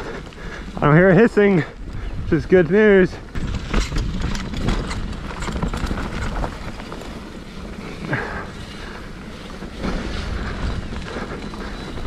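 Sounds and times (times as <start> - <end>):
bike clattering over bumps: 0.0 - 12.0
tyres rumbling on wet dirt: 0.0 - 12.0.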